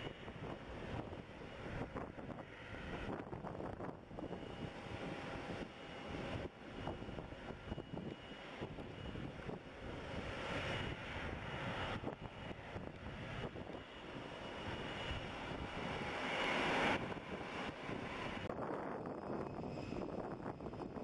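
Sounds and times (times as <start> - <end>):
jet engines rushing with whine: 0.0 - 21.0.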